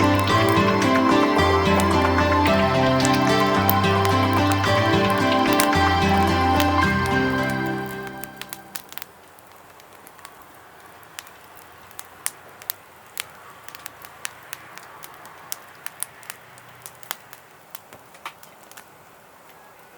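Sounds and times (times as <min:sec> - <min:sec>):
fire crackling with sharp pops: 0:00.0 - 0:19.6.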